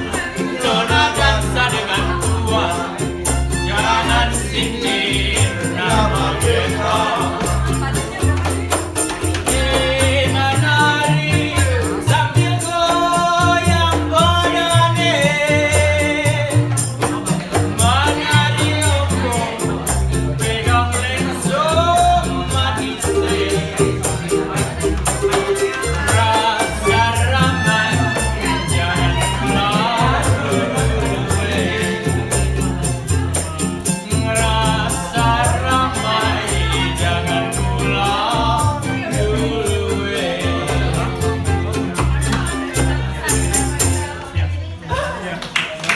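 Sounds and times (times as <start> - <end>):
plucked cello: 0.0 - 44.3
strummed small guitars: 0.0 - 44.4
walking double bass: 0.0 - 44.8.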